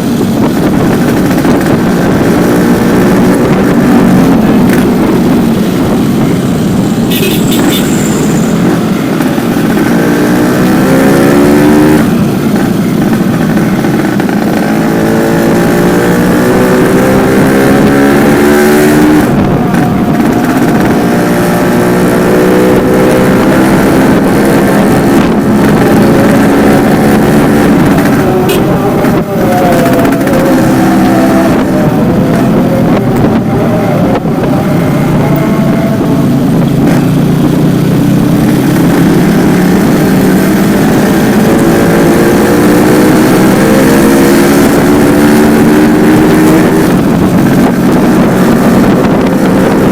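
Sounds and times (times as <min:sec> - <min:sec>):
two-stroke motorcycle engine revving: 0:00.0 - 0:49.9.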